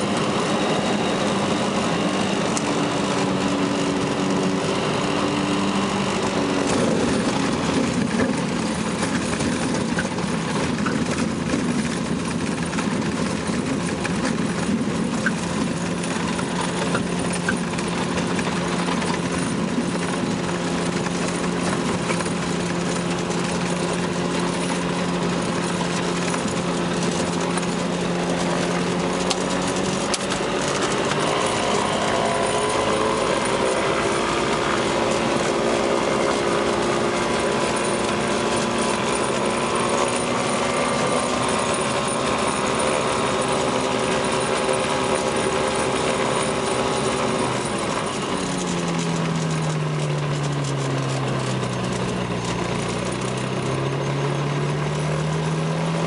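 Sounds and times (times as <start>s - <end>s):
ultralight aircraft engine running: 0.0s - 56.0s.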